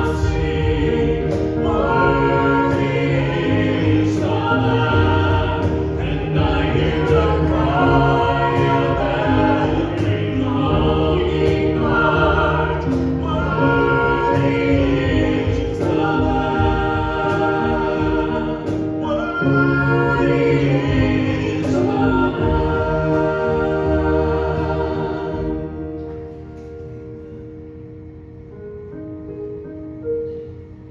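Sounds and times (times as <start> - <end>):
congregation singing a hymn: 0.0 - 27.0
instrumental accompaniment: 0.0 - 28.6.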